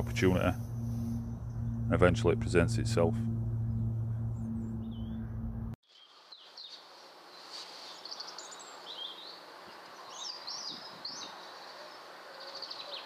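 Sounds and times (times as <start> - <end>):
faint outdoor hiss: 0.0 - 3.6, 5.8 - 13.0.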